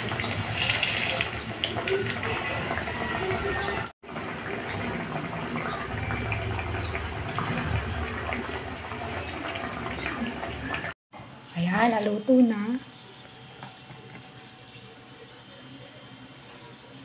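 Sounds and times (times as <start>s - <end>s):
oil sizzling deep-frying: 0.0s - 14.2s.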